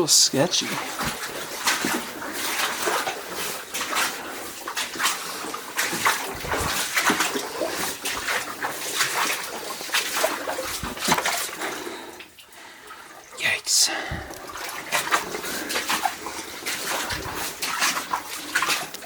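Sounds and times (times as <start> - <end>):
water splashing and sloshing: 0.0 - 19.0
person wading through water: 0.5 - 19.0.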